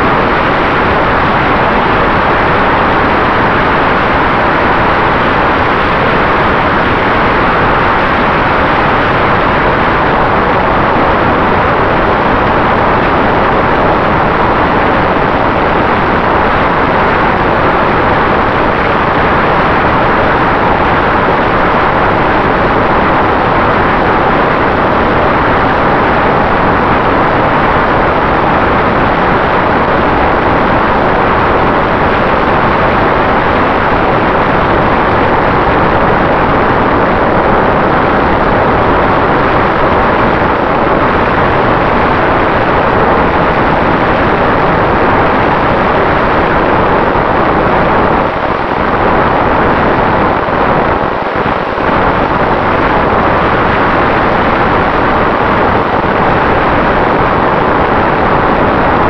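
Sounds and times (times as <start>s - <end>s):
propeller and wind rush: 0.0s - 59.0s.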